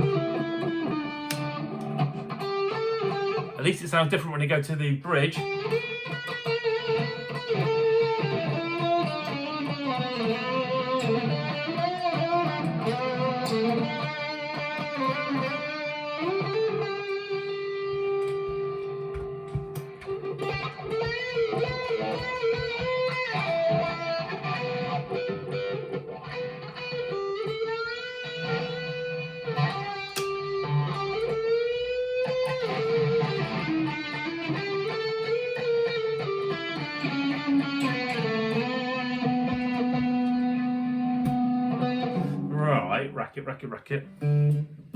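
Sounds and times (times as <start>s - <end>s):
electric guitar through an amp: 0.0s - 44.9s.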